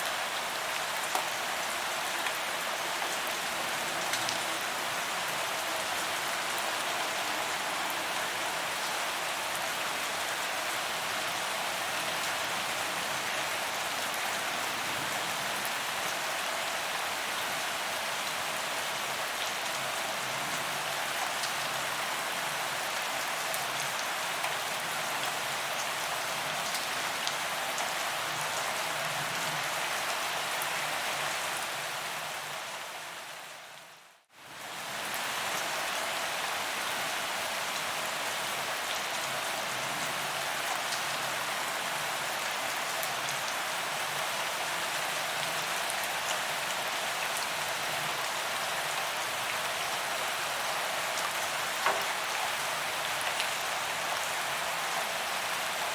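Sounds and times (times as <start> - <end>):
rain on sidewalk: 0.0 - 33.2, 34.4 - 55.9.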